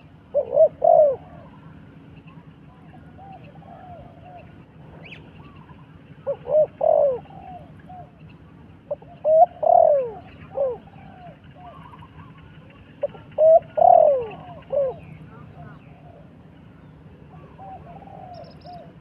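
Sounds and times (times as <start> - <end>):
dove cooing: 0.0 - 8.2, 8.8 - 19.0
faint birds chirping: 0.0 - 19.0.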